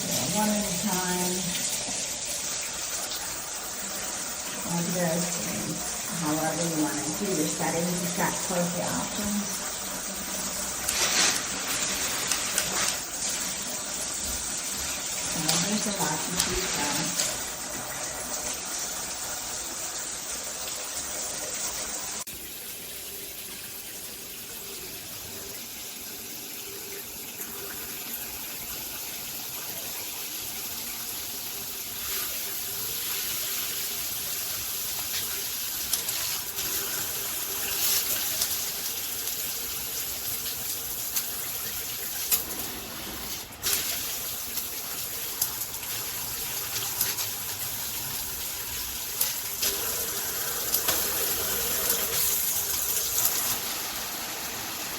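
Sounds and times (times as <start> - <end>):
shower water spraying: 0.0 - 54.9.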